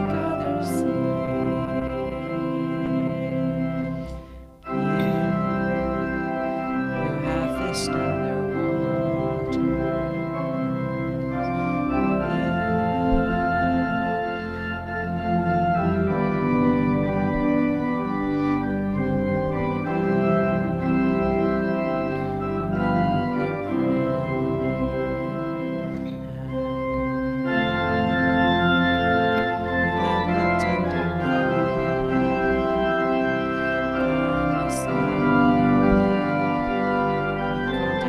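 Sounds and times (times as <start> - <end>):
organ playing a hymn: 0.0 - 38.0.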